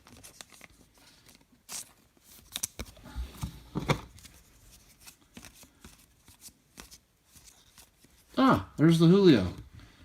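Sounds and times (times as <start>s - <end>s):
trading cards rustling: 0.0s - 8.4s.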